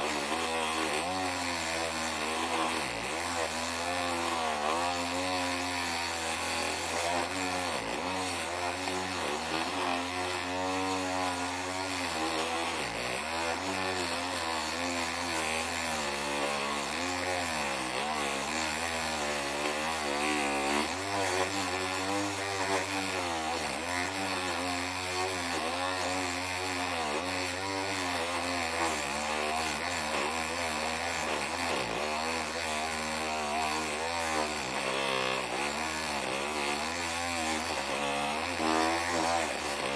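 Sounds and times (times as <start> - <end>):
power tool cutting ceramic tile: 0.0 - 39.9.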